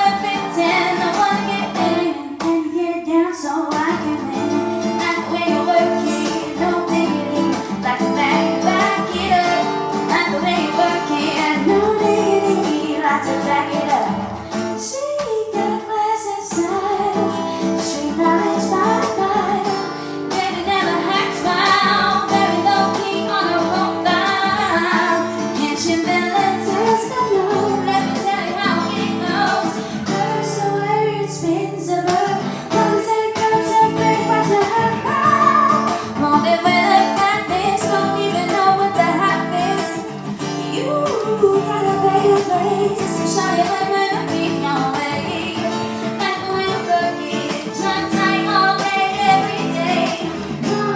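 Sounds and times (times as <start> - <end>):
guitar accompaniment: 0.0 - 50.9
woman singing: 0.0 - 50.9.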